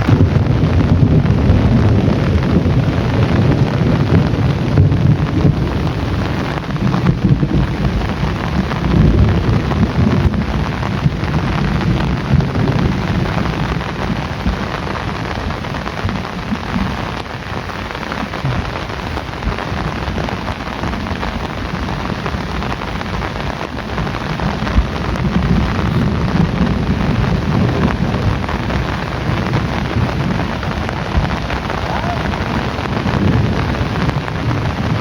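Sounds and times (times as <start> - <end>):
heavy rain falling: 0.0 - 35.0
low thunder rumbling: 0.0 - 35.0.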